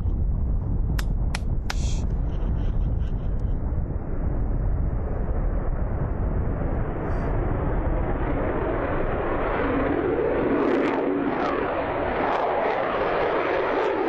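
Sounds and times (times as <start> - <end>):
jet aircraft passing overhead: 1.8 - 14.0.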